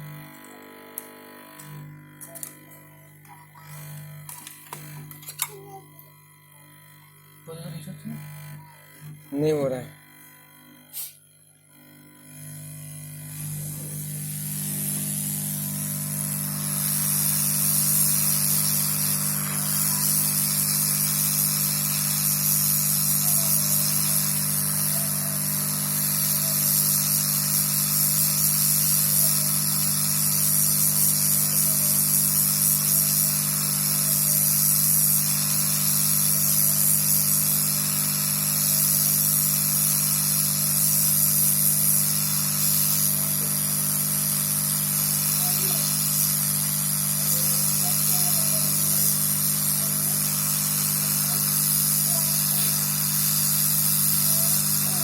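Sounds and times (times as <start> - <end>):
hot-air tool blowing: 0.0 - 5.8, 7.0 - 55.0.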